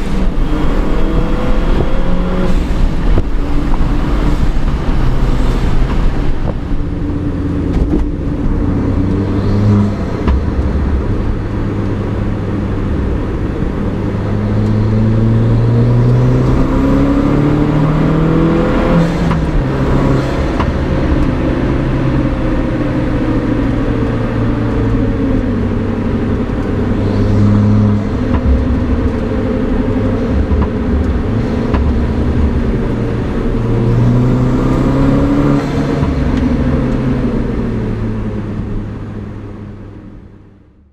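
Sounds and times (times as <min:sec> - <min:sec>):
car engine revving under load: 0:00.0 - 0:40.4.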